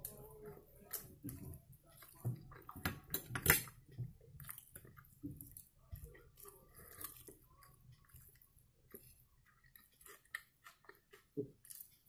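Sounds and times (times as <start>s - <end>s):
close-up chewing food: 0.0s - 12.0s.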